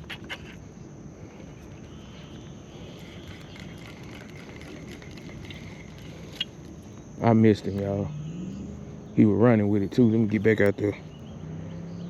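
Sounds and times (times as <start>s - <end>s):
insects trilling: 0.0s - 12.0s
low outdoor background hum: 0.0s - 12.0s.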